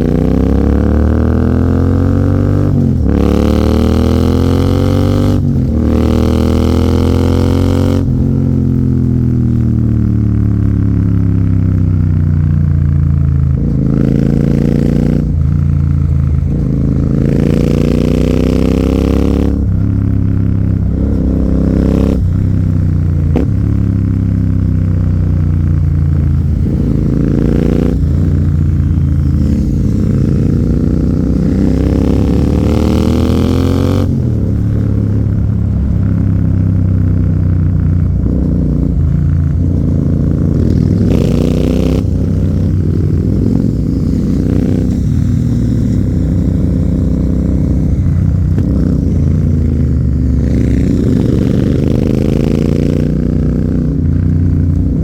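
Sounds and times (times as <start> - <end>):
motorbike engine accelerating hard: 0.0 - 55.0.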